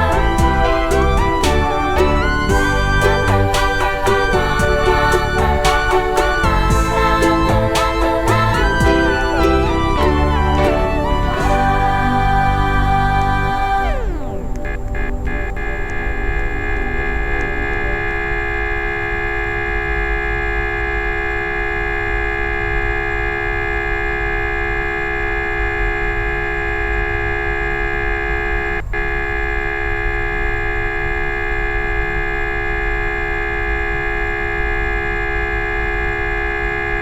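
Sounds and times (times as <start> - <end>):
horn-like drone: 0.0 - 37.0.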